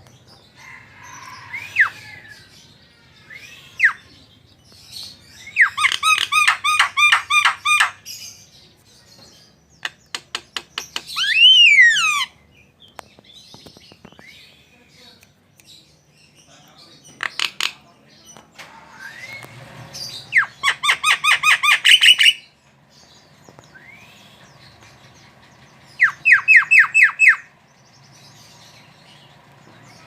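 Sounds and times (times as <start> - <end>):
starling singing: 0.0 - 15.2, 15.9 - 30.0.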